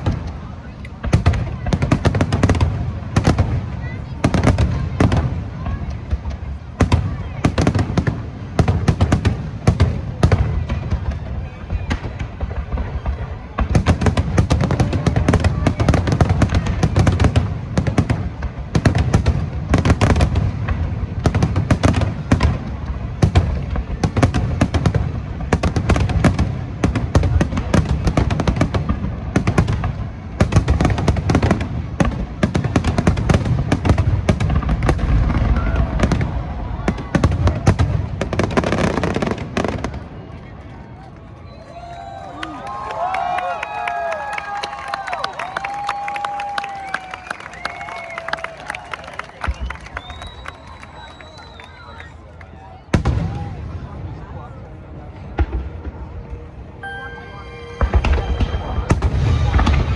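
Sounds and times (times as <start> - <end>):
fireworks booming and crackling: 0.0 - 41.2, 48.8 - 52.1, 52.8 - 59.9.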